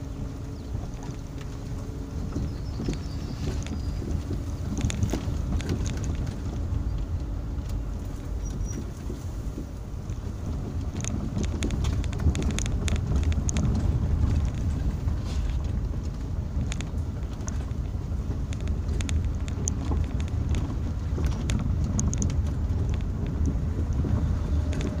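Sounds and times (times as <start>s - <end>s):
low rumble of engine and tyres: 0.0s - 25.0s
light clicks and rattles: 0.5s - 25.0s.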